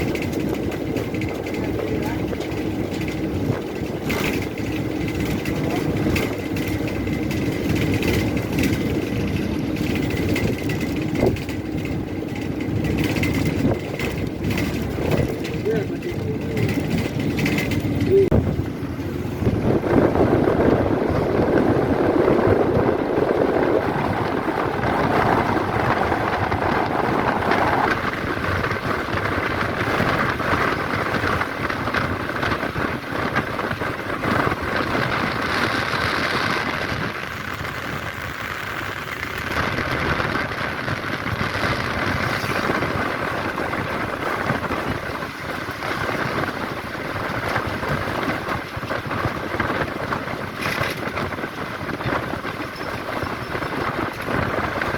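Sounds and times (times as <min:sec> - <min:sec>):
bus engine and road noise: 0:00.0 - 0:54.9.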